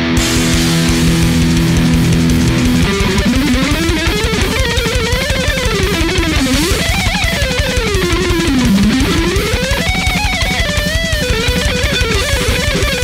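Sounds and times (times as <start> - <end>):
electric guitar lead with slides: 0.0 - 13.0
low rhythmic pulse: 0.2 - 13.0.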